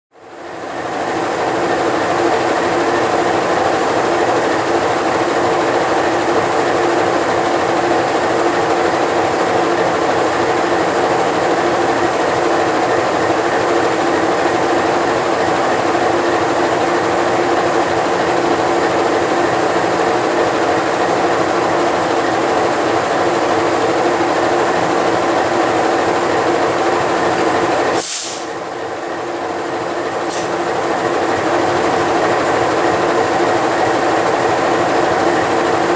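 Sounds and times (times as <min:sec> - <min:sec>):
diesel locomotive engine idling: 0:00.2 - 0:35.9.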